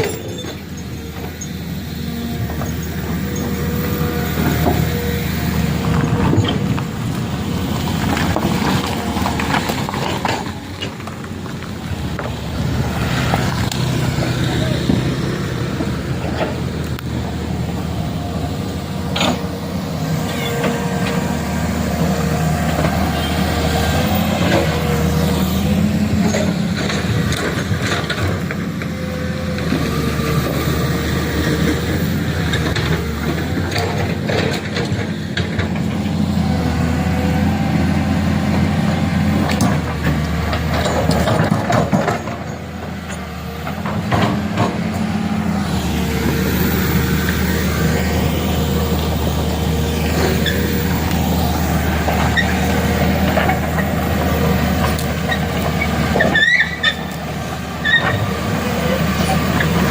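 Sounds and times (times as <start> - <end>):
heavy truck engine running: 0.0 - 59.9.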